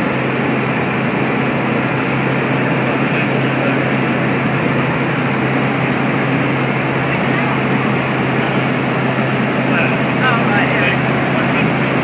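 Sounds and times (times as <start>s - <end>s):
small plane engine droning: 0.0s - 12.0s.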